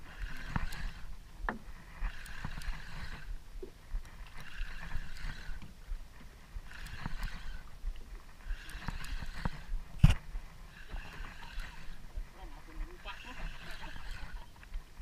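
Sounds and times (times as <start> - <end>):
fishing reel cranking: 0.0 - 1.2, 1.8 - 3.4, 4.0 - 5.8, 6.5 - 14.7.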